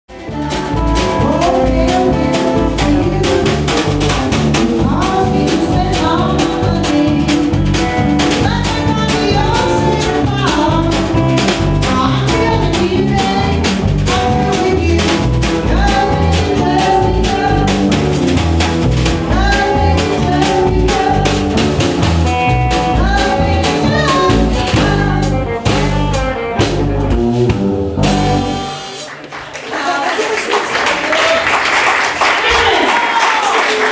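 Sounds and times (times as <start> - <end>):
live blues band playing: 0.1 - 29.5.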